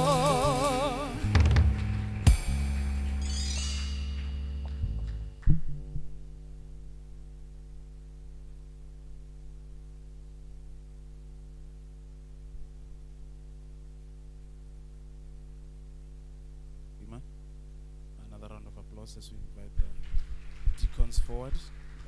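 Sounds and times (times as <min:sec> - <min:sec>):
low electrical mains hum: 0:00.0 - 0:22.0.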